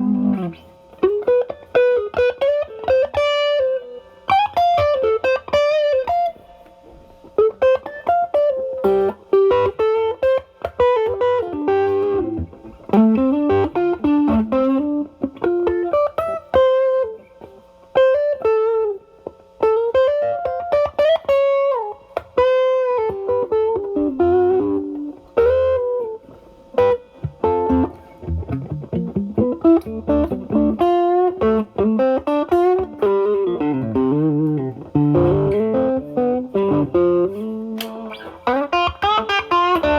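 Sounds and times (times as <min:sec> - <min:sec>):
electric guitar lead phrases: 0:00.0 - 0:39.9.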